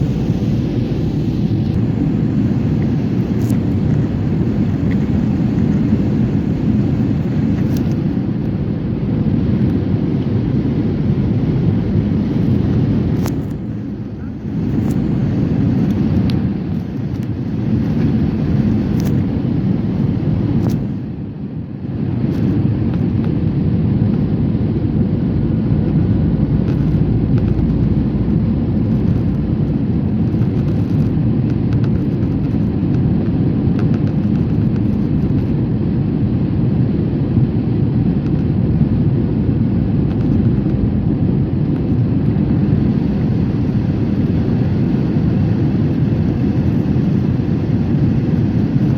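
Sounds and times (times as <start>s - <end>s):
airliner cabin rumble: 0.0s - 48.9s.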